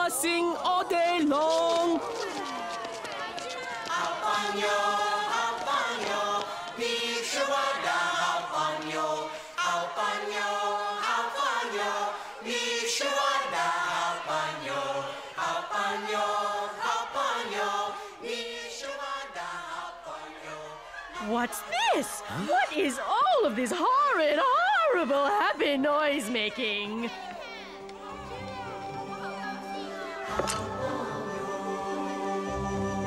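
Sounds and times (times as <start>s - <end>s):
crowd singing in chorus: 0.0s - 33.0s.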